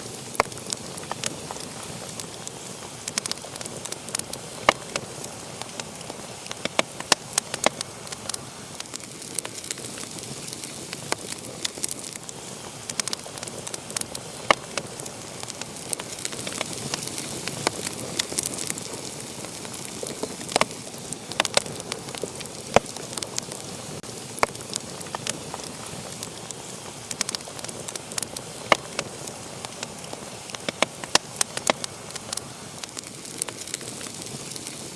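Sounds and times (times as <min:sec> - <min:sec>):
steady hiss: 0:00.0 - 0:34.9
wood fire crackling and popping: 0:00.0 - 0:34.9.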